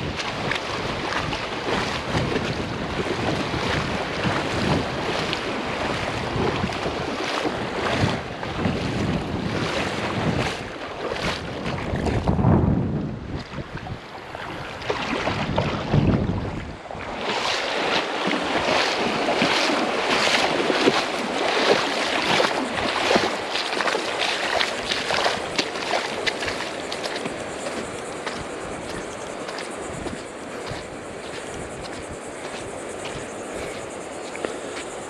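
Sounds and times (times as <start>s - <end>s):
ocean surf washing up beach: 0.0s - 35.0s
wind buffeting microphone: 0.0s - 35.0s.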